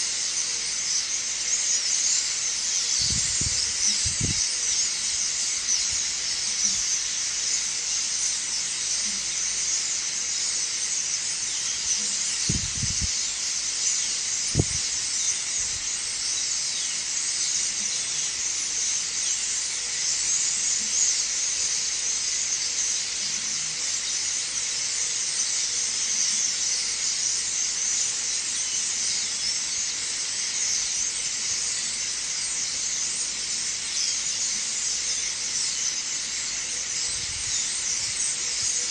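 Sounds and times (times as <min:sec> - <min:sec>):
birds chirping and squealing: 0:00.0 - 0:38.9.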